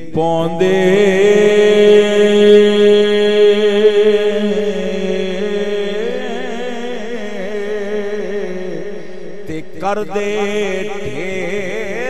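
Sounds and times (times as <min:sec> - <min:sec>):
man chanting verse: 0:00.0 - 0:12.0.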